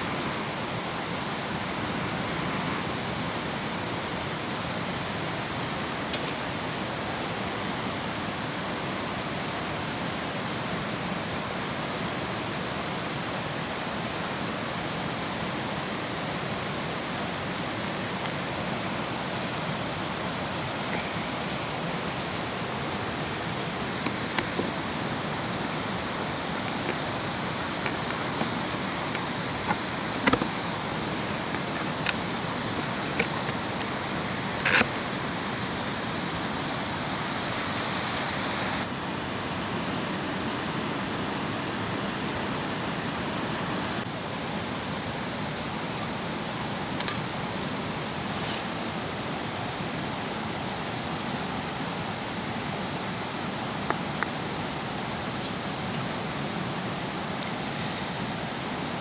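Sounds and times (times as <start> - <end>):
steady outdoor rushing noise: 0.0 - 59.0.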